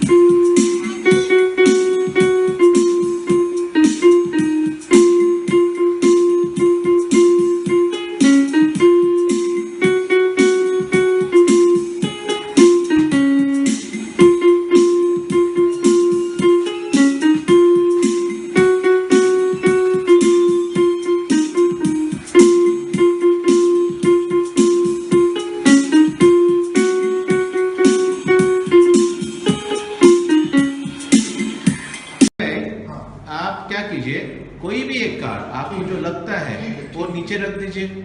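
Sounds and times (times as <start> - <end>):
plucked notes melody: 0.0 - 31.3
light keyboard: 0.0 - 32.1.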